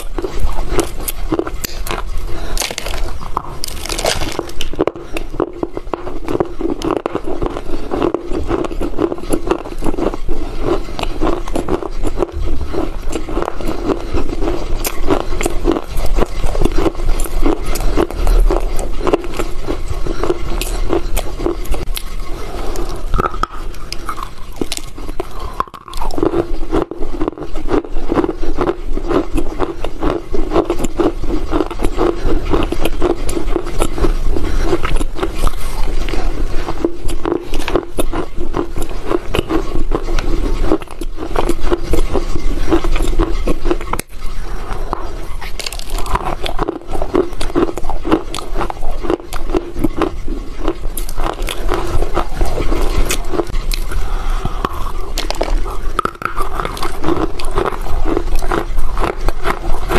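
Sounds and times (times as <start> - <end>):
chewing crunchy earth: 0.0 - 59.9.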